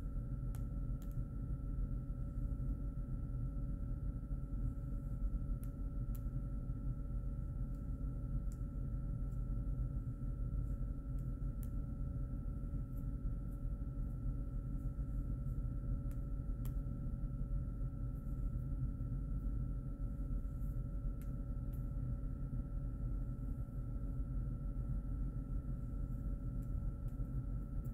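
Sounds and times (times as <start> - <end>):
room hum: 0.0 - 27.9.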